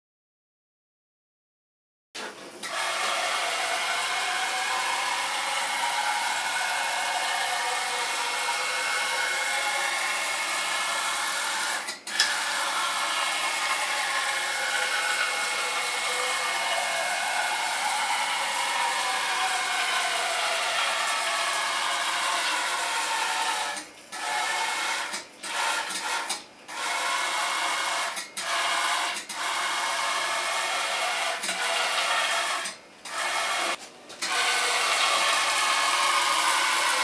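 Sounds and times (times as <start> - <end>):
stepper motor whine: 2.6 - 37.0.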